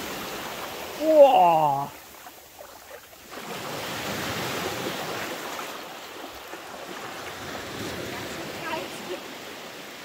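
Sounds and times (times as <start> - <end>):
sea surf washing on a beach: 0.0 - 10.0.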